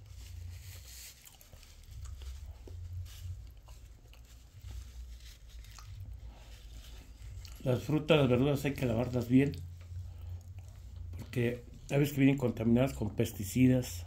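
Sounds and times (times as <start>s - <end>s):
person chewing food quietly: 0.0s - 12.6s
low rumble: 0.0s - 13.2s.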